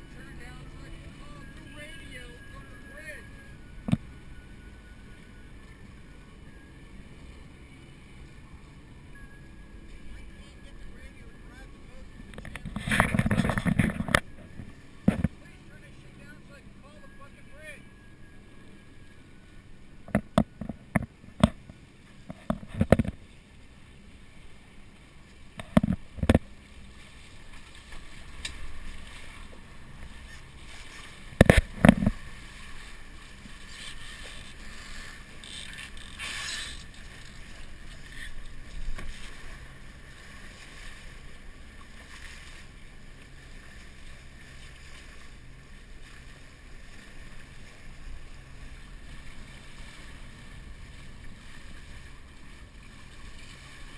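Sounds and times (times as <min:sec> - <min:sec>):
water wash around boat: 0:00.0 - 0:53.9
wind: 0:00.0 - 0:53.9.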